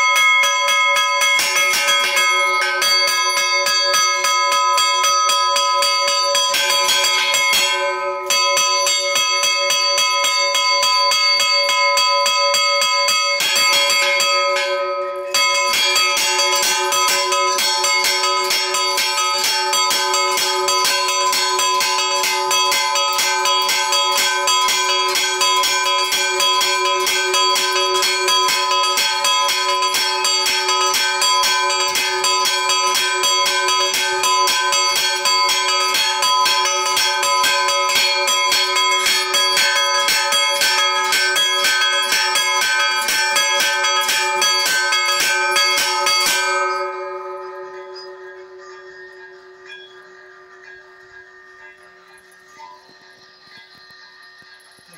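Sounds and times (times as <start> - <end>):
church bells pealing: 0.0 - 54.9.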